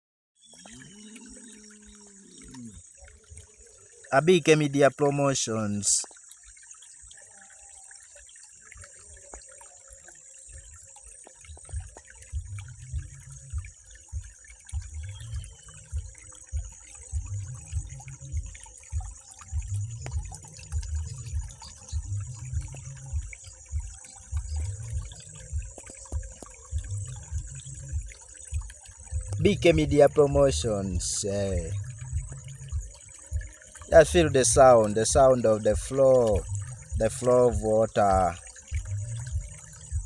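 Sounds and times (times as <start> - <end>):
flowing water: 0.4 - 40.0
low water surges: 0.5 - 40.0.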